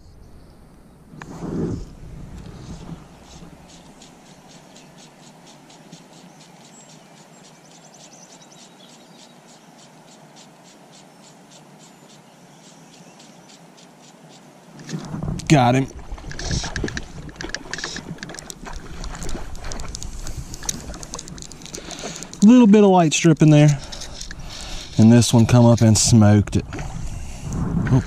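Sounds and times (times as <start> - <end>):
faint steady hiss: 0.0 - 28.0
insect chirping: 1.8 - 25.9.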